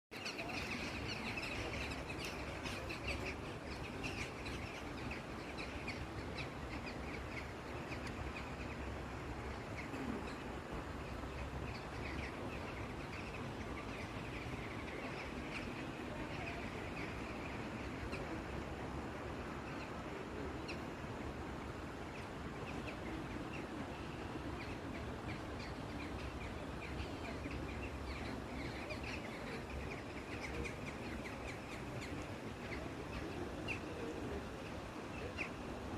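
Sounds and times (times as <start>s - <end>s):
birds chirping: 0.1s - 35.9s.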